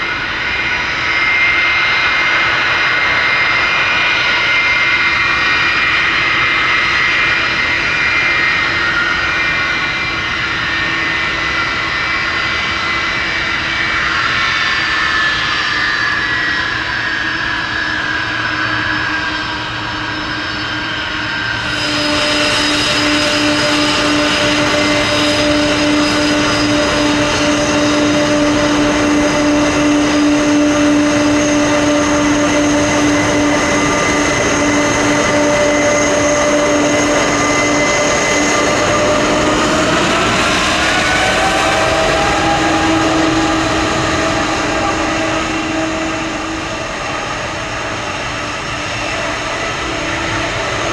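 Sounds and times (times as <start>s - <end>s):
jet engines whining: 0.0s - 50.9s.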